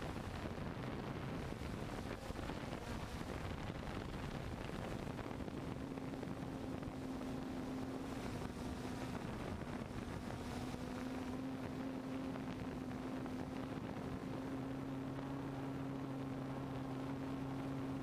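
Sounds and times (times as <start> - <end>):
drone propellers humming: 0.0 - 18.0
wind noise on microphone: 0.0 - 18.0.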